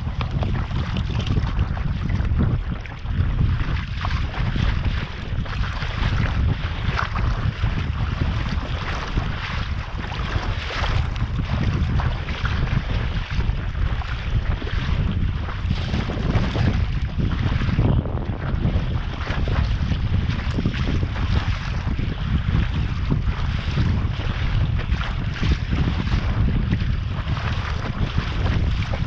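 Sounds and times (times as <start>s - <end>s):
water slapping against kayak hull: 0.0s - 29.0s
wind buffeting microphone: 0.0s - 29.0s.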